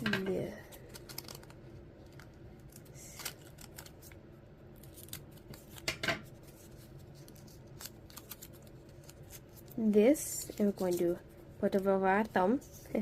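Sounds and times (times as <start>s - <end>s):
paper rustling: 0.7s - 4.2s, 4.8s - 13.0s.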